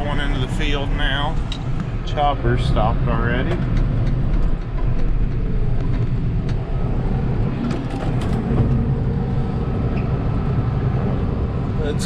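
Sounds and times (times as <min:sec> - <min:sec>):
tractor engine drone from cab: 0:00.0 - 0:12.0.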